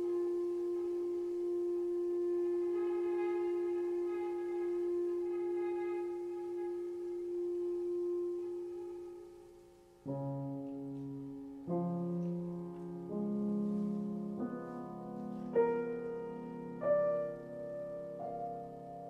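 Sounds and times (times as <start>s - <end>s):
held piano tone: 0.0s - 19.0s
piano chords ringing: 0.0s - 19.0s.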